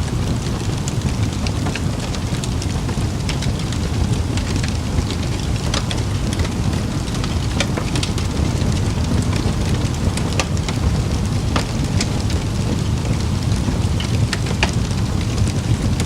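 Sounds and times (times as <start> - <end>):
campfire crackling and popping: 0.0 - 16.0
low rush of fire: 0.0 - 16.0.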